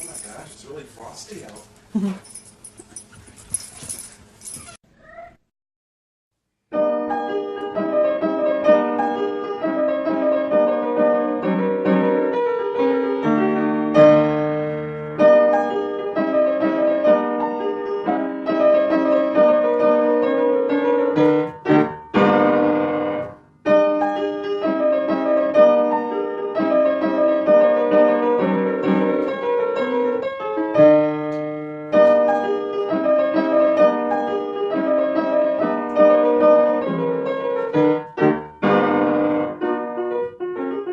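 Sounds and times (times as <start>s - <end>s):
piano music: 6.7s - 40.9s.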